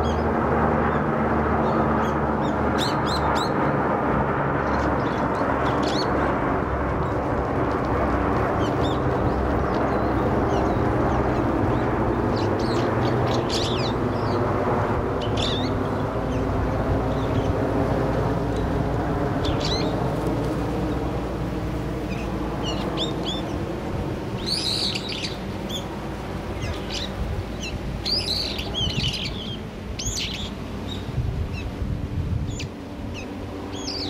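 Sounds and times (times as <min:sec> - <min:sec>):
birds chirping: 0:00.0 - 0:03.7, 0:04.6 - 0:07.4, 0:08.2 - 0:31.8, 0:32.4 - 0:34.0
loud background rushing noise: 0:00.0 - 0:34.0.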